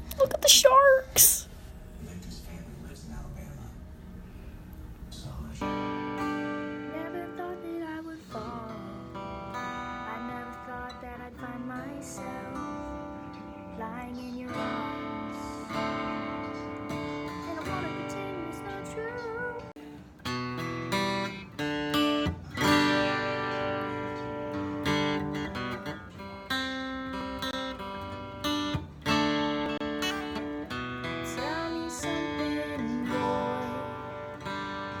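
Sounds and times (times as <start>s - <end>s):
acoustic guitar strumming chords: 5.6s - 35.0s.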